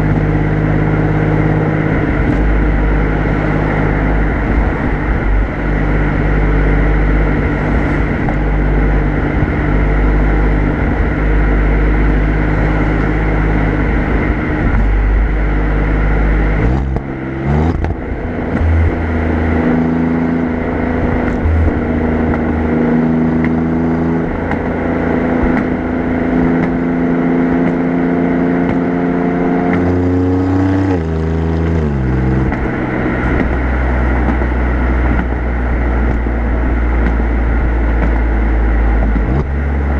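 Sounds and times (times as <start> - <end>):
car exhaust drone revving: 0.0 - 39.9.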